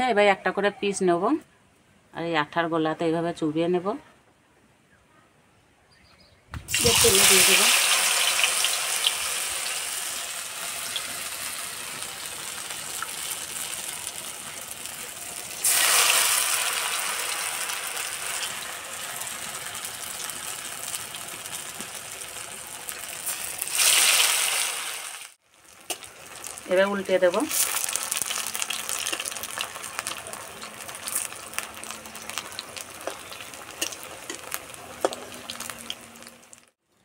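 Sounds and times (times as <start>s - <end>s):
dough deep-frying in hot oil: 6.7s - 36.8s.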